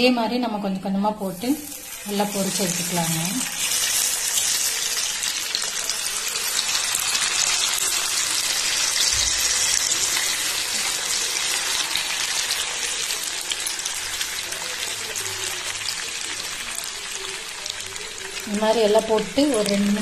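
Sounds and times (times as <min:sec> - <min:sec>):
chicken deep-frying in oil: 0:01.2 - 0:20.0.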